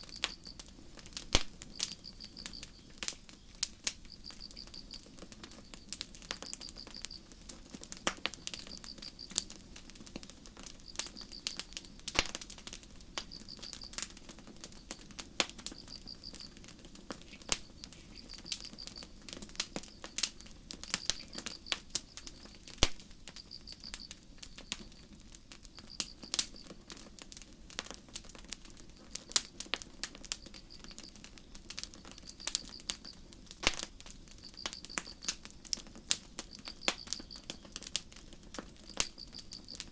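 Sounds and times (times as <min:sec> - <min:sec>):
crickets chirping: 0:00.0 - 0:07.4, 0:08.3 - 0:09.4, 0:10.6 - 0:26.8, 0:28.8 - 0:37.9, 0:38.7 - 0:39.9
campfire crackling and popping: 0:00.0 - 0:39.9.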